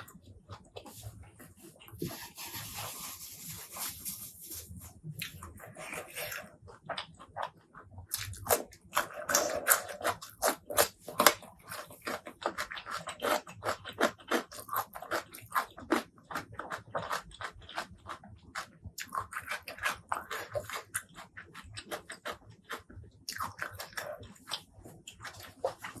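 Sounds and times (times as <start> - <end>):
person chewing and biting: 1.8 - 26.0.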